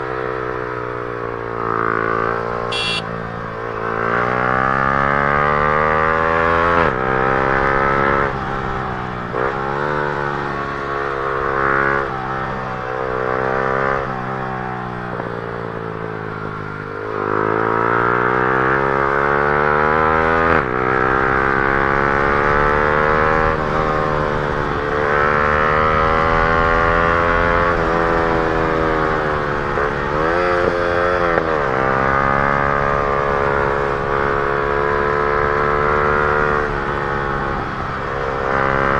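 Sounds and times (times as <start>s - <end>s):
motorcycle engine revving: 1.3s - 38.9s.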